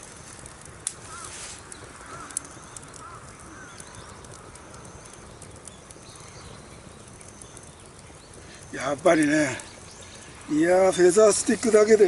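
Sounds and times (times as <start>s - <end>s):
campfire crackling and popping: 0.0s - 12.0s
steady hiss: 0.0s - 12.0s.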